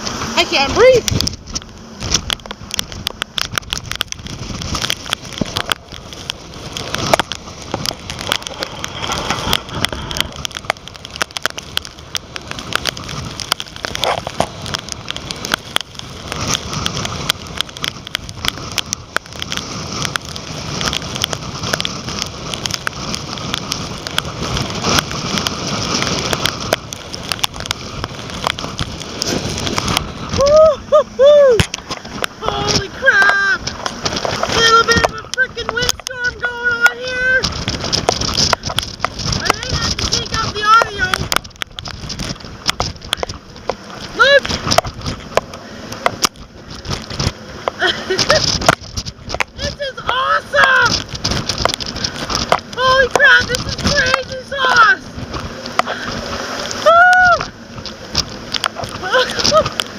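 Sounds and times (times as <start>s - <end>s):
rain pattering on camera housing: 0.0s - 59.9s
storm wind gusting into microphone: 0.0s - 59.9s.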